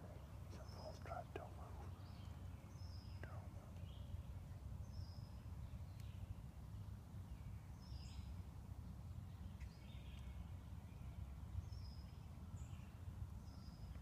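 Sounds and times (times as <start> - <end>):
songbird chirps: 0.0 - 14.0.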